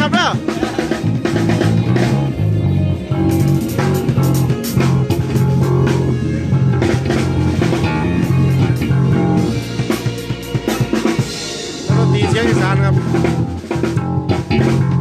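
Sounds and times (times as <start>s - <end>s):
bass guitar: 0.0s - 15.0s
drum kit steady beat: 0.0s - 15.0s
electric guitar playing: 0.0s - 15.0s.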